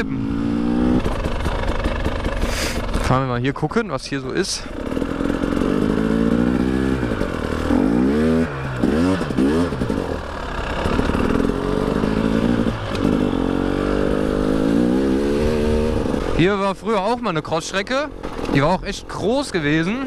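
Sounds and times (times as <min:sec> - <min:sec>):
two-stroke motorcycle engine revving: 0:00.0 - 0:03.4, 0:04.4 - 0:20.0.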